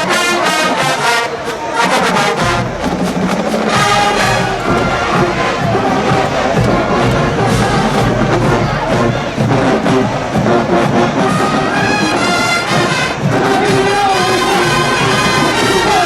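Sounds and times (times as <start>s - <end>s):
brass long held notes: 0.0s - 16.0s
marching band drums: 0.0s - 16.0s.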